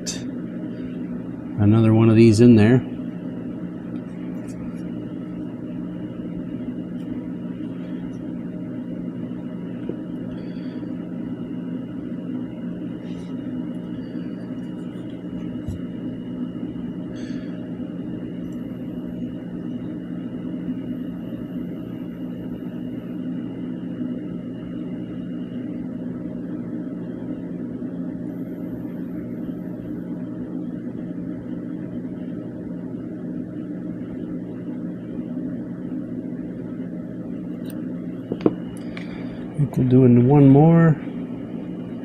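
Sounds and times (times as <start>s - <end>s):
faint high whine: 0.0s - 42.0s
low machine hum: 0.0s - 42.0s.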